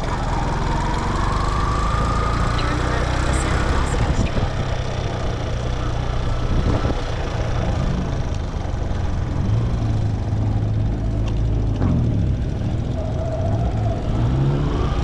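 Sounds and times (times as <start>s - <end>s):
motorcycle engine running: 0.0s - 13.0s
road noise: 0.0s - 15.0s.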